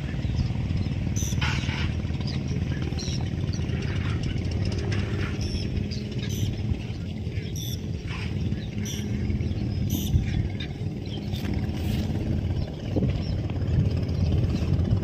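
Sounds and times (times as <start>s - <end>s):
motorboat engine drone: 0.0s - 15.0s.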